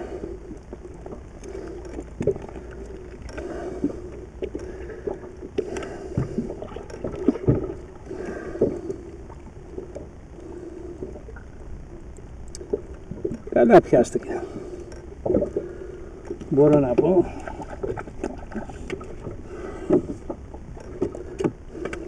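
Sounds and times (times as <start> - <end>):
water lapping against hull: 0.0 - 22.0.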